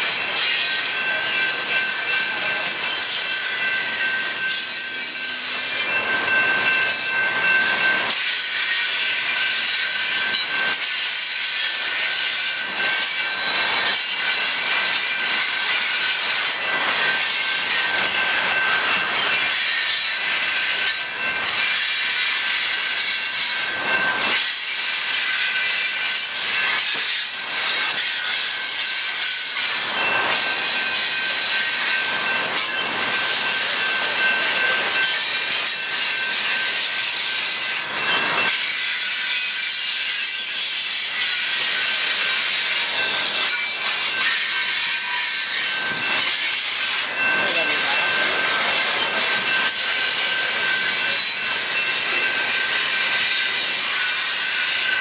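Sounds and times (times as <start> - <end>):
train wheels scraping on rails: 0.0 - 55.0.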